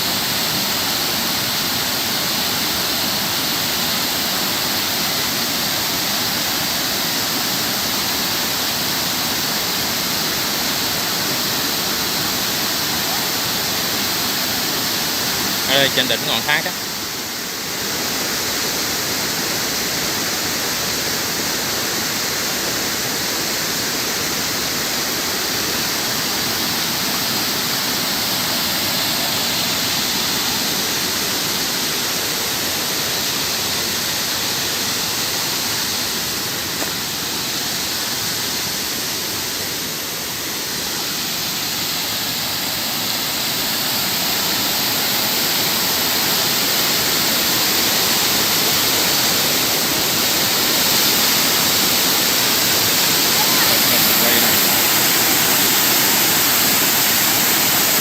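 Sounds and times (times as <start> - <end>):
waterfall rushing over rock: 0.0 - 58.0.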